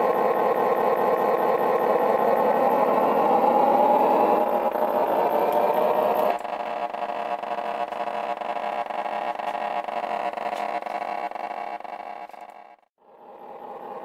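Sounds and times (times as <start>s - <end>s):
model train motor whirring: 0.0s - 12.8s.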